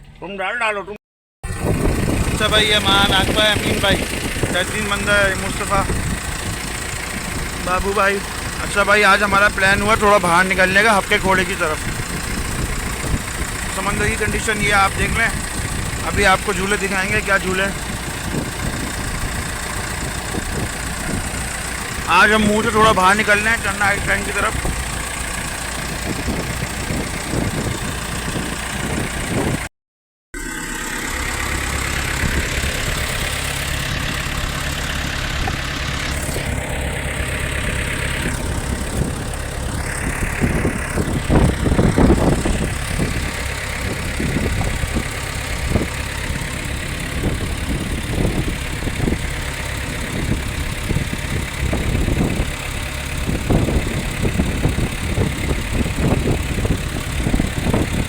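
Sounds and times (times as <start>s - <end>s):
wind: 0.0s - 29.7s, 30.4s - 58.0s
boat engine running: 1.4s - 29.7s, 30.4s - 58.0s.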